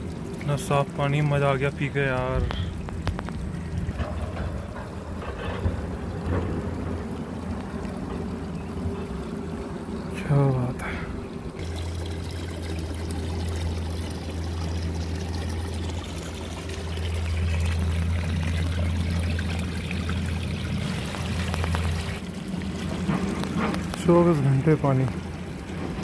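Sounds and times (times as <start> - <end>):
water pouring onto stones: 0.0 - 8.1, 10.2 - 26.0
water trickling: 0.0 - 26.0.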